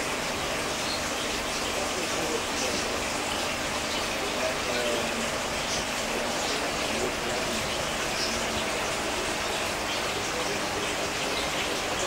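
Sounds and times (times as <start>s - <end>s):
water bubbling and trickling: 0.0s - 12.0s.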